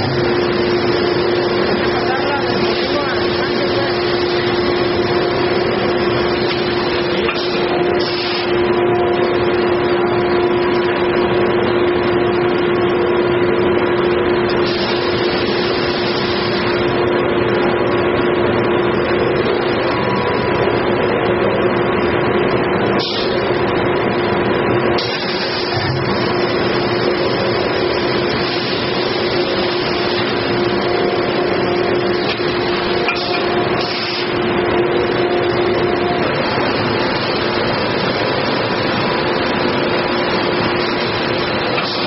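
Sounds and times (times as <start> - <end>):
constant hum: 0.0 - 42.0
machine running: 0.0 - 42.0.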